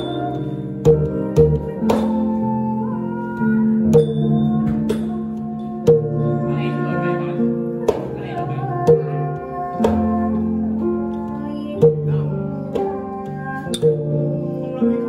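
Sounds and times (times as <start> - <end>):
electronic keyboard music: 0.0 - 15.0.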